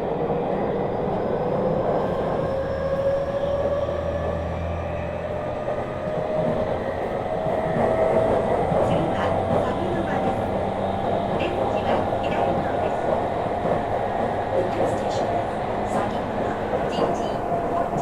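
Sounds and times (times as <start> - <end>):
wheels rumbling on rail: 0.1 - 18.0.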